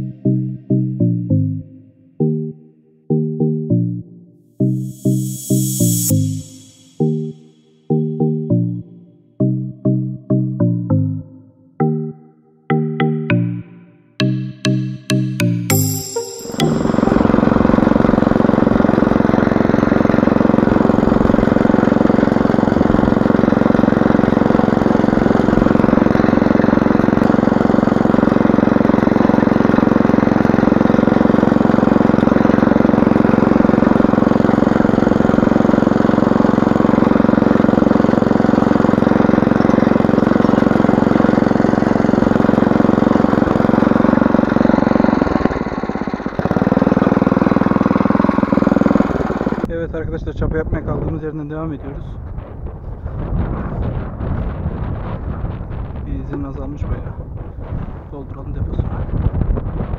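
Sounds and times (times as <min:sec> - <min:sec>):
motor hoe engine running: 0:00.0 - 0:02.6, 0:03.2 - 0:50.0, 0:52.0 - 0:59.9.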